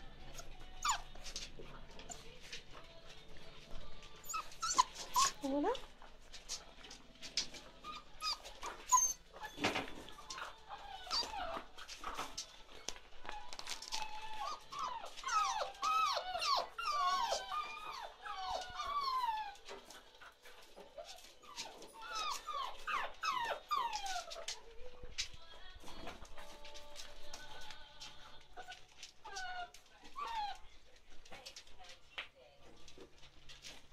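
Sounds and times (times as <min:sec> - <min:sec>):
puppies whining and yelping: 0:00.1 - 0:25.2, 0:28.2 - 0:30.7.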